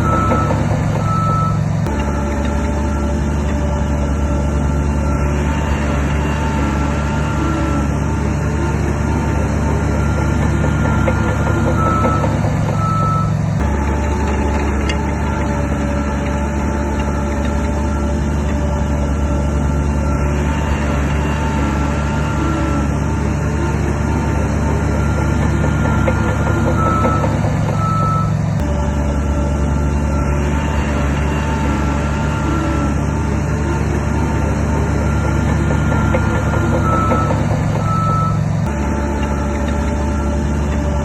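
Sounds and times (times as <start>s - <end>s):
reversing alarm beeping: 0.0s - 8.0s, 8.6s - 23.0s, 23.6s - 41.0s
heavy diesel engine running: 0.0s - 41.0s.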